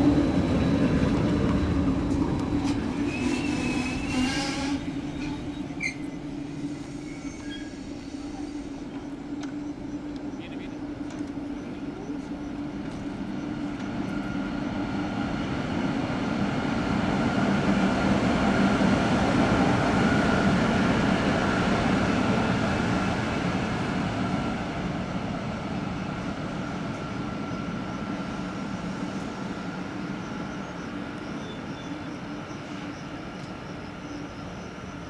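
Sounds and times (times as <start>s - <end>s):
electric locomotives passing: 0.0s - 35.0s.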